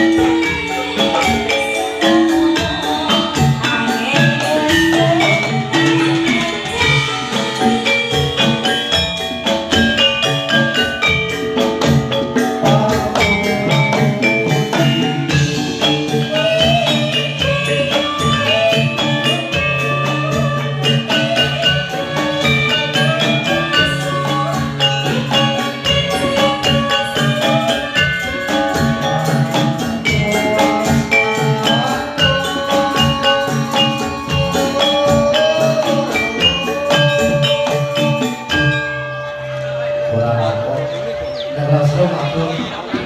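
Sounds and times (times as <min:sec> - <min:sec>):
drums: 0:00.0 - 0:43.0
gamelan metallophones playing: 0:00.0 - 0:43.0.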